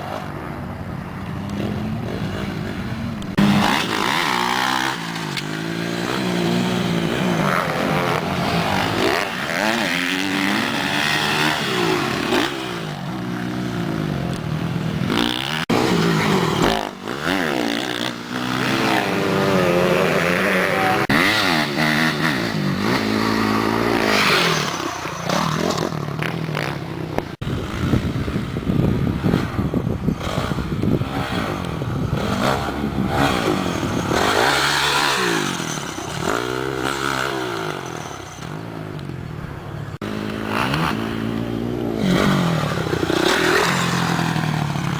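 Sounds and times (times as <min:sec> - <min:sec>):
motocross bike engine revving: 0:01.3 - 0:39.0, 0:39.9 - 0:44.9.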